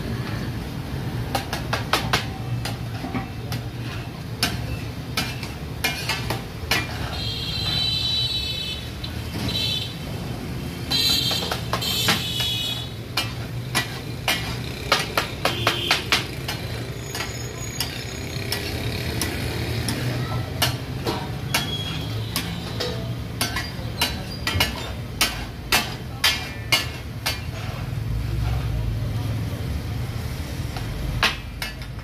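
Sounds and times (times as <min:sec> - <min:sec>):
metal spatulas striking griddle: 0:01.2 - 0:08.0, 0:10.9 - 0:28.7, 0:30.7 - 0:32.0.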